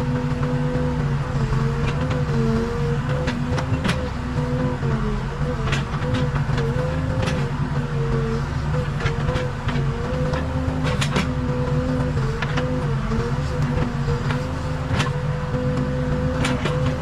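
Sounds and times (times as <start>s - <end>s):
diesel engine with whine: 0.0s - 17.0s.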